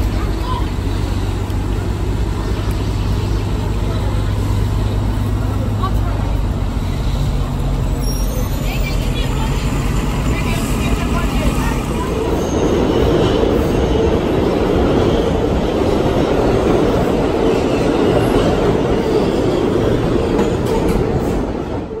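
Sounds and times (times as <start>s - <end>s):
vehicle rumbling in motion: 0.0s - 22.0s.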